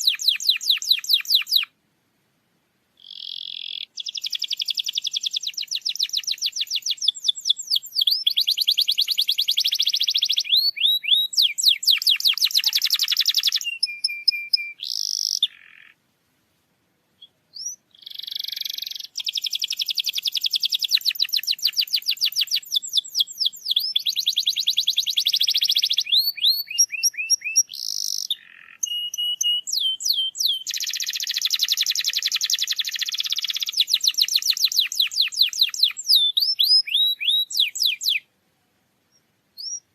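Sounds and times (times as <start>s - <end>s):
canary singing: 0.0s - 1.7s, 3.0s - 16.0s, 17.2s - 38.3s, 39.1s - 39.9s.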